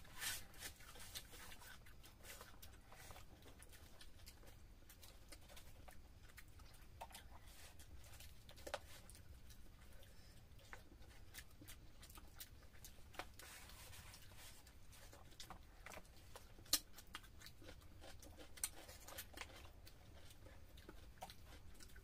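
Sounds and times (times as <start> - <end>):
chewing: 0.0 - 22.0
low steady hum: 0.0 - 22.0.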